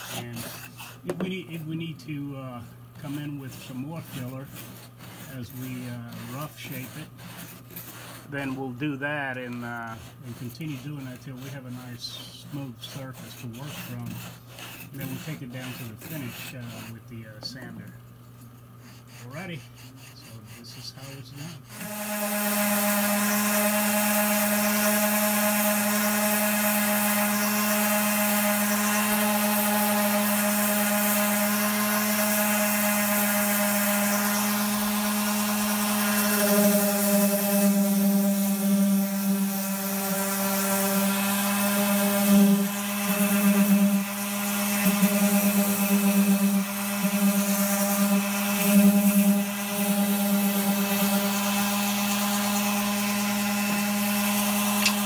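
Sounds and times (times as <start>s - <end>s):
orbital sander running: 0.0s - 17.9s, 18.8s - 55.0s.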